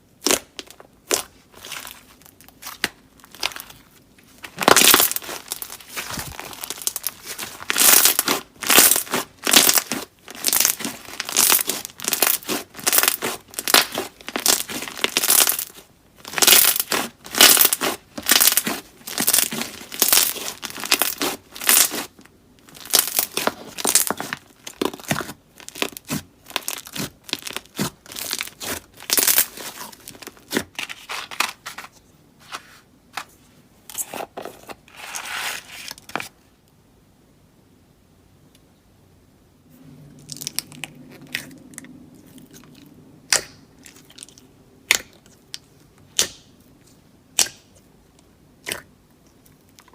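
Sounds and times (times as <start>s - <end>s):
slime squishing: 0.2s - 31.6s, 40.1s - 49.9s.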